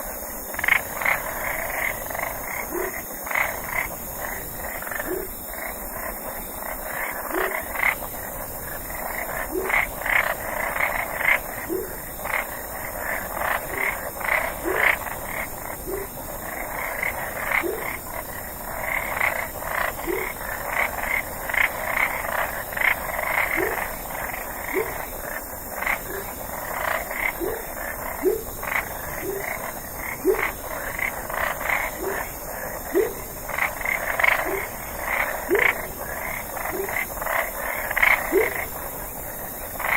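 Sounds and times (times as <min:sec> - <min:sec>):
frog chorus: 0:00.0 - 0:39.9
frog croaking: 0:00.0 - 0:39.9.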